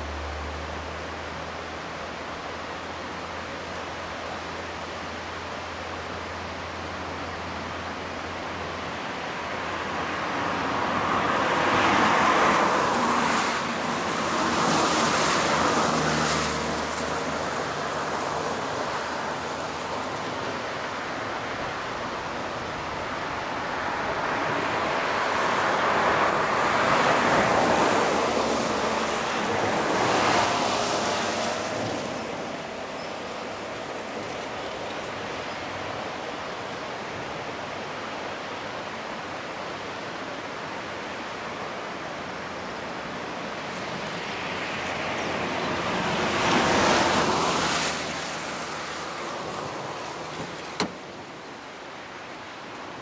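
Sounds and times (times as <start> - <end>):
diesel engine hum: 0.0 - 53.0.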